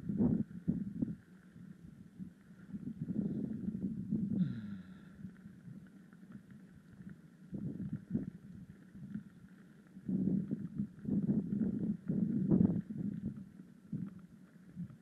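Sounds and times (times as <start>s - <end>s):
bike tyres rumbling on road: 0.0s - 15.0s.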